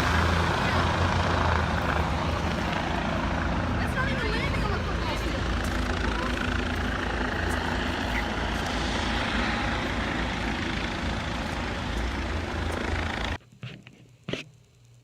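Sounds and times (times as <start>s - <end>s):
helicopter rumbling close by: 0.0s - 13.4s.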